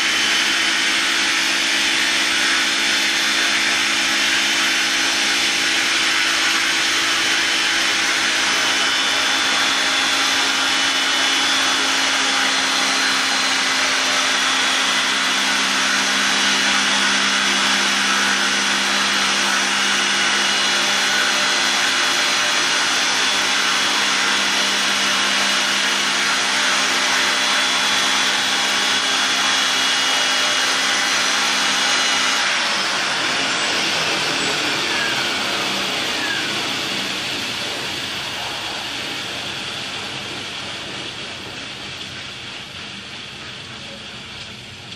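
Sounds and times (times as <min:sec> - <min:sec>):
model helicopter rotors whirring: 0:00.0 - 0:44.1.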